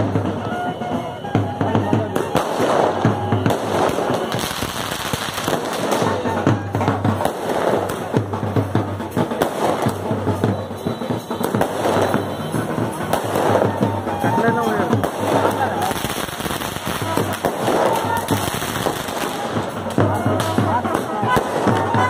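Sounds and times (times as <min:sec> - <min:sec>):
fireworks cracking and popping: 0:00.0 - 0:22.0
music playing: 0:00.0 - 0:22.0.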